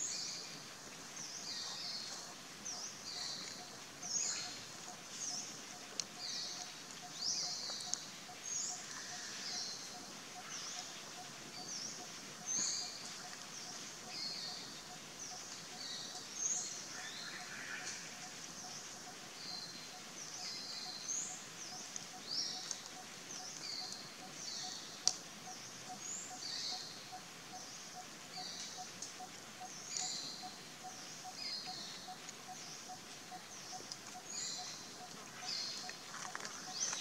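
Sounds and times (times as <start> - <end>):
birds chirping: 1.2 - 37.0.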